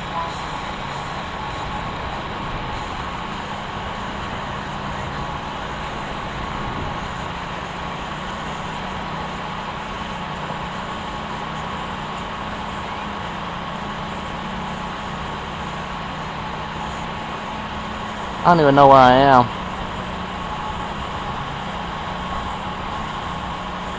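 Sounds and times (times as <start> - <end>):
vehicle engine rumble: 0.0 - 18.5, 19.4 - 23.9
traffic noise: 0.0 - 23.9.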